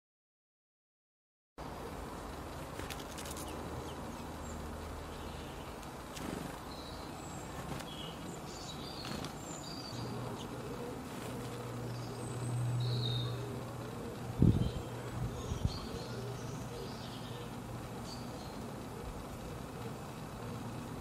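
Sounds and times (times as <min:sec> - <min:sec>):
low steady hum: 0:01.6 - 0:21.0.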